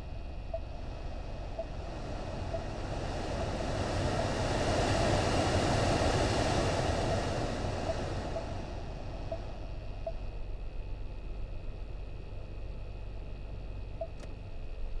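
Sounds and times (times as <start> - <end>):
car air conditioning hum: 0.0 - 15.0.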